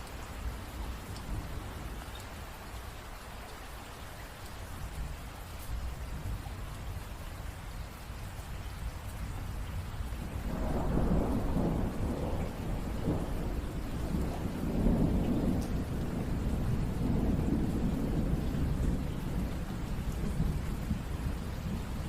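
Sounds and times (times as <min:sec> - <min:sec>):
steady rain: 0:00.0 - 0:22.0
low rumble of thunder: 0:00.2 - 0:02.5, 0:04.8 - 0:22.0.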